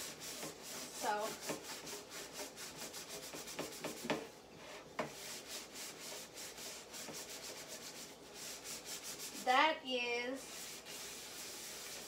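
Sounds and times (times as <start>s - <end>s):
pan being scrubbed: 0.0s - 9.6s, 10.4s - 12.0s.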